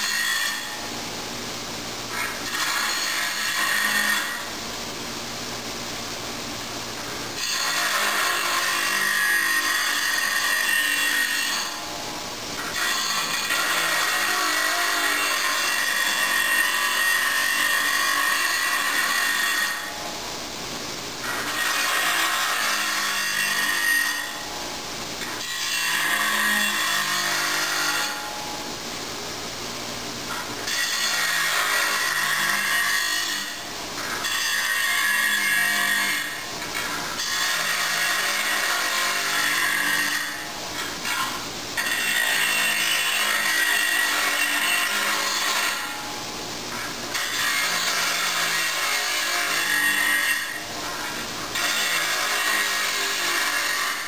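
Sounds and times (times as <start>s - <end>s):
bench grinder grinding steel: 0.0s - 1.0s, 2.1s - 4.6s, 7.3s - 20.1s, 21.2s - 24.6s, 25.2s - 28.4s, 30.3s - 54.0s.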